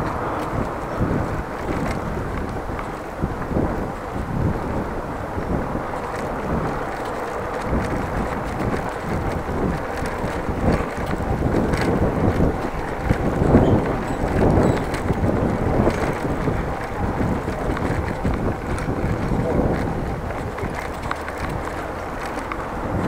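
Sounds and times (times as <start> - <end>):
bicycle rattling over brick paving: 0.0 - 23.0
wind buffeting microphone: 0.0 - 23.0.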